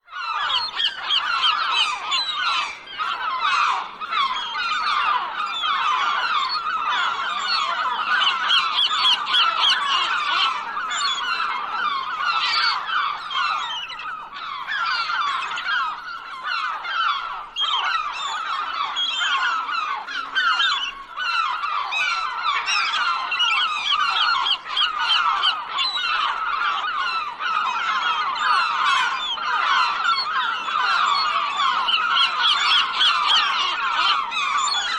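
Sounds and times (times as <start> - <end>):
flock of gulls calling: 0.0 - 34.9.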